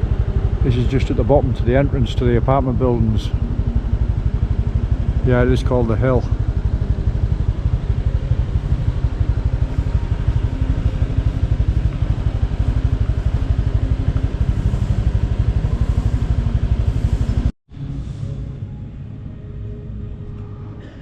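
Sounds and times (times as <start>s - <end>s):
small motorbike engine running: 0.0s - 17.5s.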